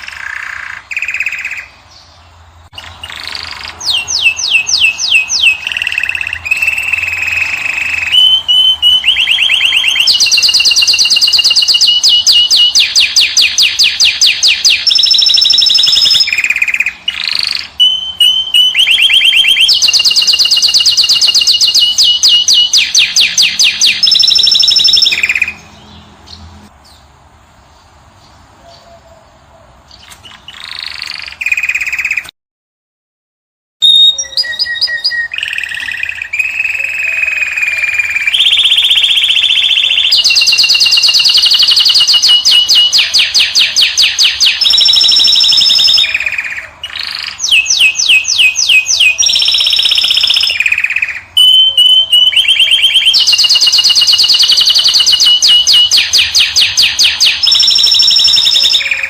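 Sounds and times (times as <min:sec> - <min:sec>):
songbird trilling and chirping: 0:00.0 - 0:32.3, 0:33.8 - 0:59.0.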